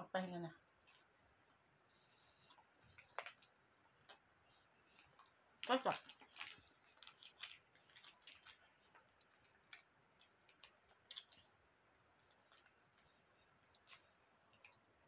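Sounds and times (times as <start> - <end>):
chewing crispy food: 2.4 - 15.0.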